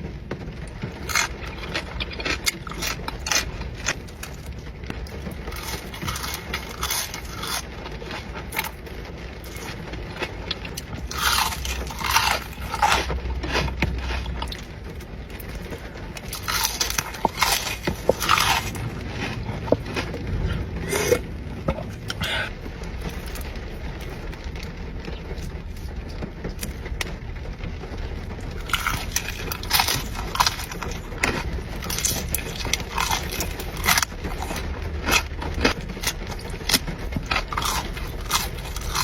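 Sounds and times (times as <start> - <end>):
crunching and chewing food: 0.0 - 39.0
steady low hum: 0.0 - 39.0.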